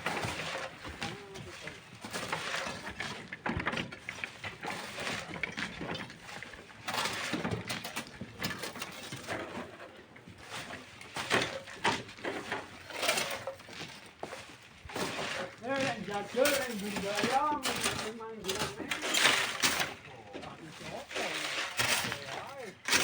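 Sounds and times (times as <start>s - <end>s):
hand tools scraping sand and stone: 0.0s - 23.0s.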